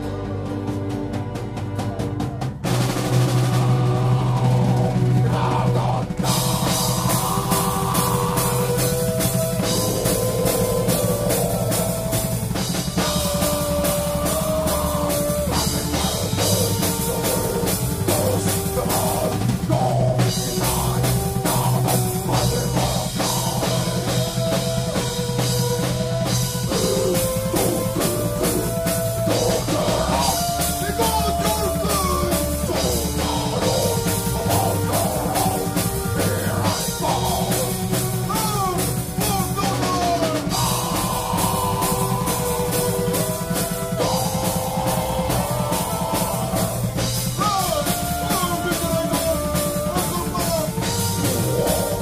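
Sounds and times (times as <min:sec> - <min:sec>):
driving drum kit: 0:00.0 - 0:52.0
folk metal band playing: 0:00.0 - 0:52.0
man and woman singing: 0:03.1 - 0:52.0.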